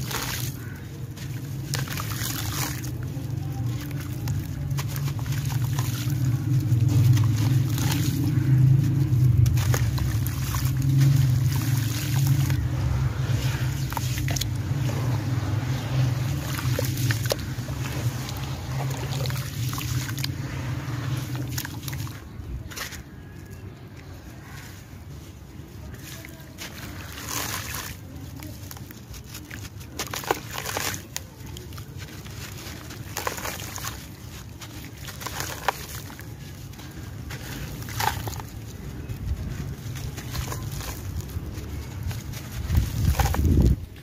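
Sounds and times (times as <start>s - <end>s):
steady low rumble: 0.0s - 29.9s, 30.6s - 44.0s
sand-cement chunks crunching: 0.0s - 44.0s
water sloshing and trickling: 0.0s - 44.0s.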